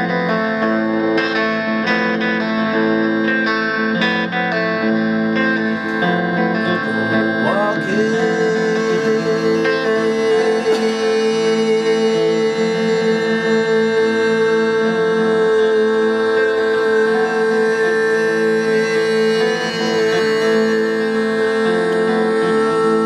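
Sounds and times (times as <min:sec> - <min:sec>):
electric saz playing: 0:00.0 - 0:23.0
steady drone: 0:04.2 - 0:23.0.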